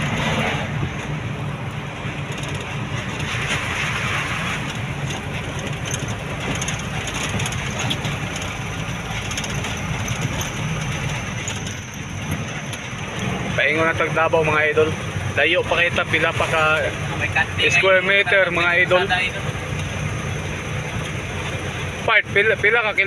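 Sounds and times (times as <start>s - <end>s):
road noise: 0.0s - 23.0s
vehicle engine drone: 0.0s - 23.0s.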